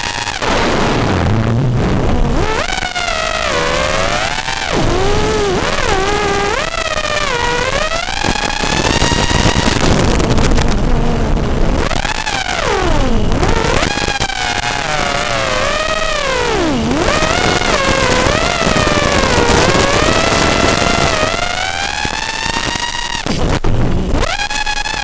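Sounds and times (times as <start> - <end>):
steady rushing noise: 0.0 - 25.0
quadcopter motors whining: 2.4 - 23.4.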